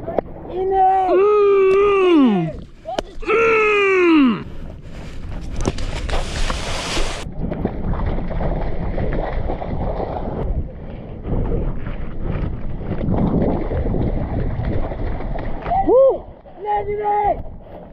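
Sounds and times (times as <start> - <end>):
wind buffeting microphone: 0.0 - 17.9
water splashing and sloshing: 1.7 - 16.6.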